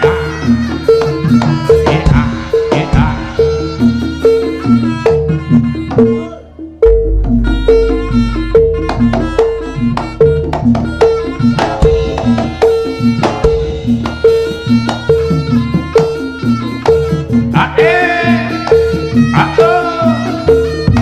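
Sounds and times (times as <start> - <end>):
drums: 0.0 - 21.0.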